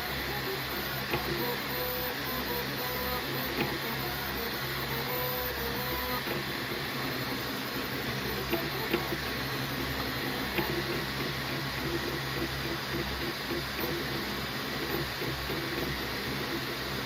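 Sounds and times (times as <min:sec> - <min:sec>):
stepper motor whining: 0:00.0 - 0:17.0.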